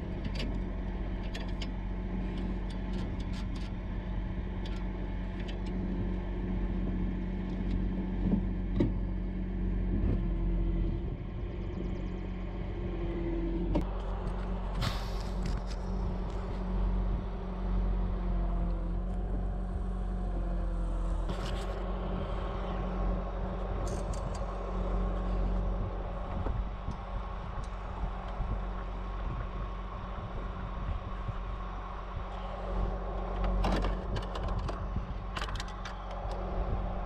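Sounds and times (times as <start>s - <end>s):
truck engine humming: 0.0s - 37.0s.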